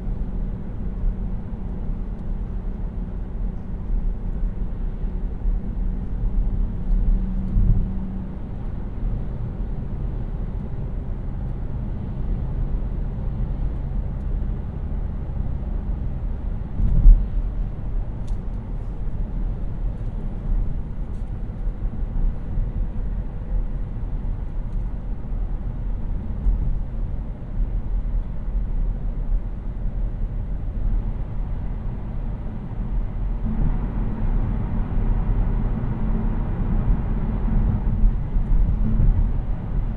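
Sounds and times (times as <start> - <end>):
faint engine hum: 0.0 - 39.9
road and tyre rumble: 0.0 - 39.9.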